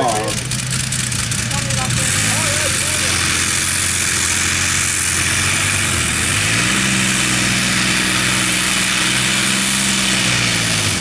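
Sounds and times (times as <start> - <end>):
tractor engines running: 0.0 - 11.0.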